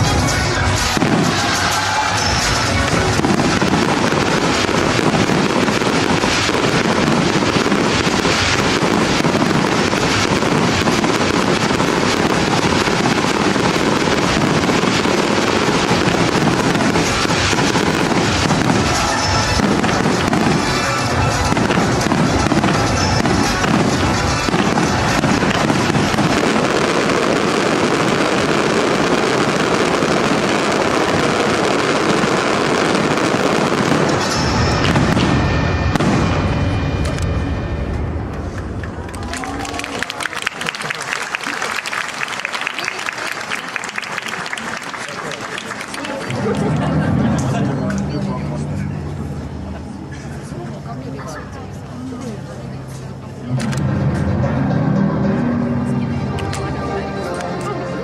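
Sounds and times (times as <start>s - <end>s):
music playing: 0.0s - 40.4s, 45.3s - 58.0s
fireworks bursting and crackling: 0.0s - 50.1s.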